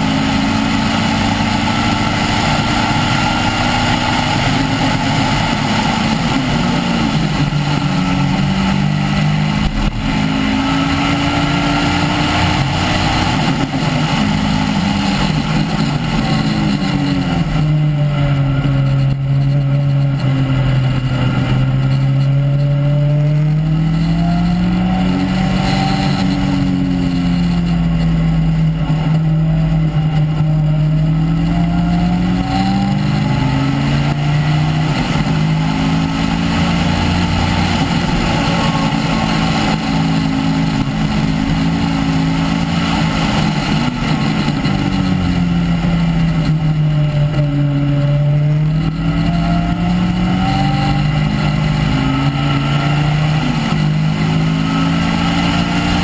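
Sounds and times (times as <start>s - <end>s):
race car engine revving: 0.0s - 56.0s
wind and tyre noise hiss: 0.0s - 56.0s.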